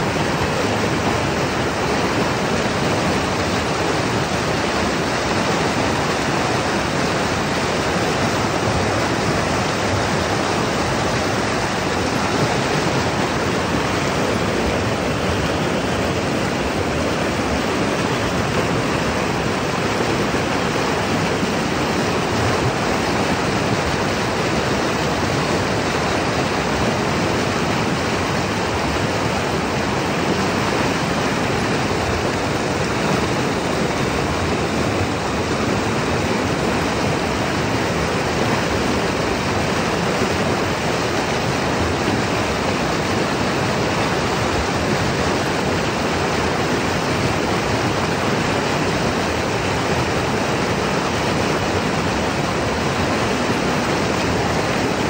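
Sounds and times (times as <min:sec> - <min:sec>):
whitewater rushing over rapids: 0:00.0 - 0:55.0.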